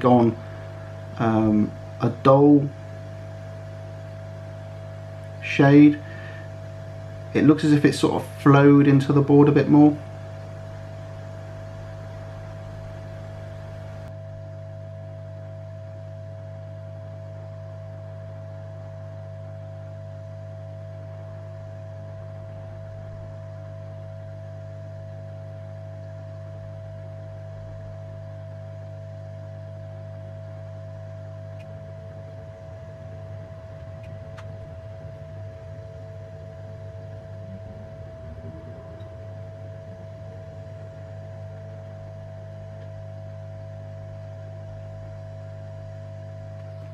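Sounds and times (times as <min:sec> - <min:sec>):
hot air blower humming: 0:00.0 - 0:46.9.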